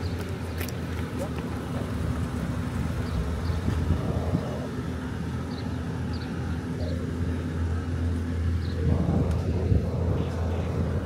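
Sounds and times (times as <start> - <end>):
street ambience: 0.0 - 11.0
vehicle engine humming: 0.0 - 11.0.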